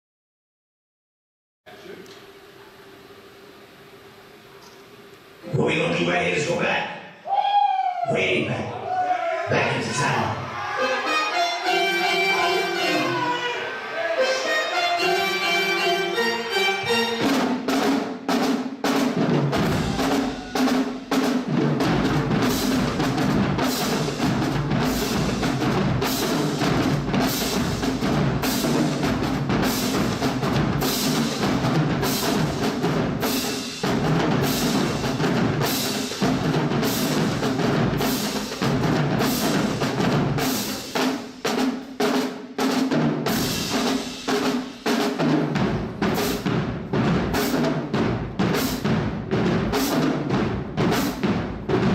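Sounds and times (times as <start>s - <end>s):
drums playing fast rhythm: 9.5s - 13.2s, 13.8s - 51.9s.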